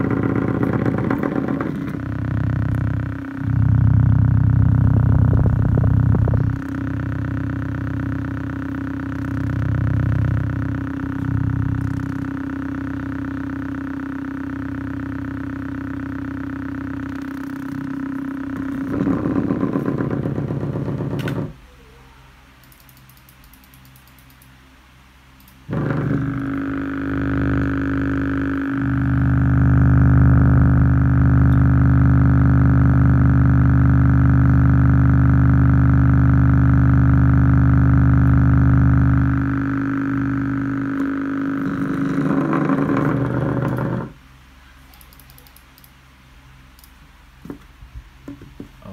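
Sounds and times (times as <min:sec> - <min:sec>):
subwoofer buzzing test tone: 0:00.0 - 0:21.7, 0:25.0 - 0:45.0.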